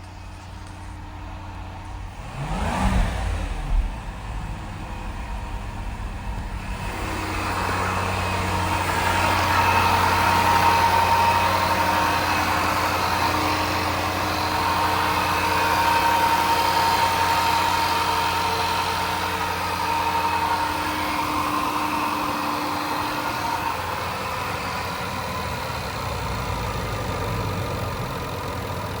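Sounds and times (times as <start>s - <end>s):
car engine idling with whine: 0.0s - 29.0s.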